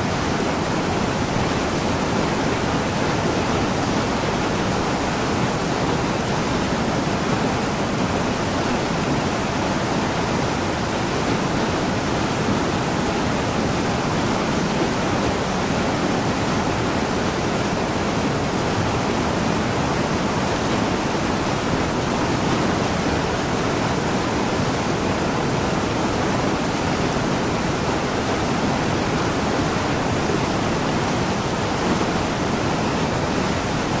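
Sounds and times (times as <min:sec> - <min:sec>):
stream rushing over boulders: 0:00.0 - 0:34.0.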